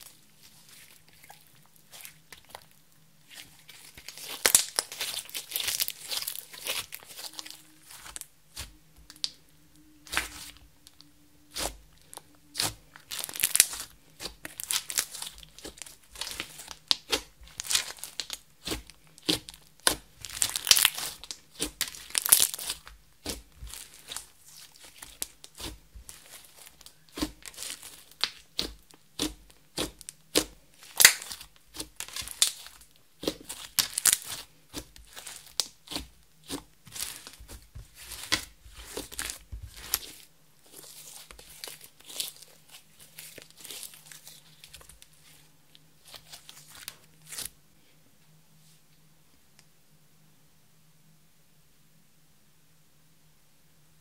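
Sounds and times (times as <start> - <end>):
slime squishing: 0.0 - 47.6.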